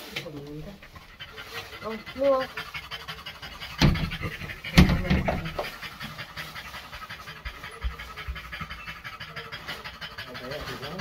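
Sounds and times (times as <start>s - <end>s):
dog panting rapidly: 0.2s - 11.0s.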